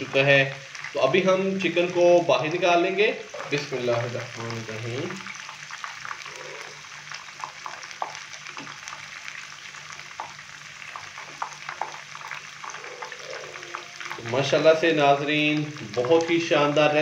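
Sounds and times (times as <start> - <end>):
oil sizzling: 0.0 - 17.0
sharp crackles: 1.7 - 16.6.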